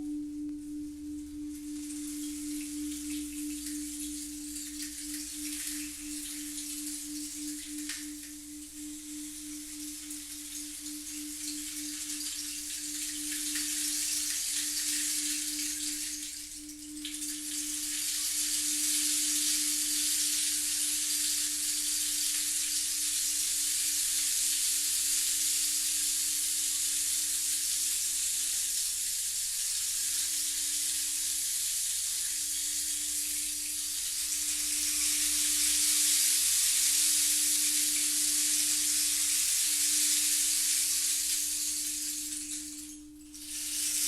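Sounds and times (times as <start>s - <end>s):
singing bowl low tone: 0.0s - 28.2s, 29.8s - 44.0s
steady hiss: 0.0s - 44.0s.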